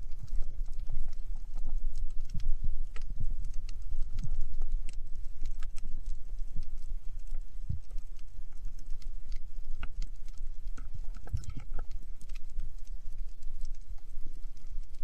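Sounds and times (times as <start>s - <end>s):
sharp clicks and crackles: 0.0s - 15.0s
underwater rumble of moving water: 0.0s - 15.0s.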